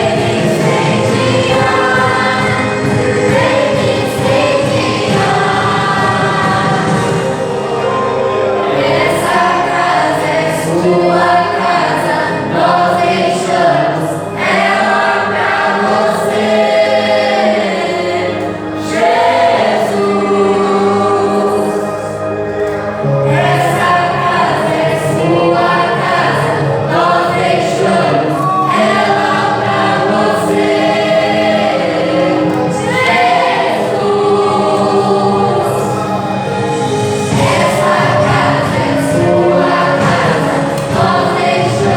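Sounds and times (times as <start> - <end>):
group singing worship song: 0.0 - 41.9
musical accompaniment: 0.0 - 41.9.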